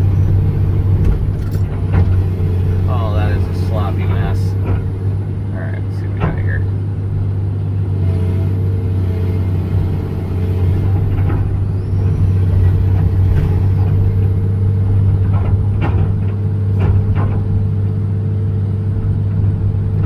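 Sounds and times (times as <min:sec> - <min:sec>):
excavator diesel engine humming: 0:00.0 - 0:20.0.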